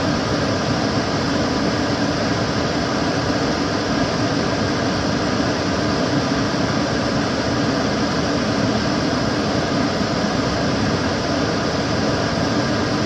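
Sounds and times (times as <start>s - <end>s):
extractor fan running: 0.0s - 13.0s.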